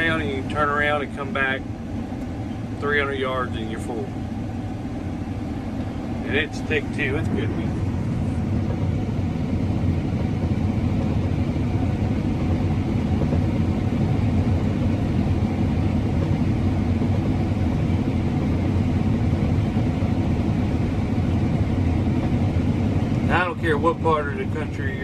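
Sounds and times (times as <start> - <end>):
combine harvester drone: 0.0 - 25.0.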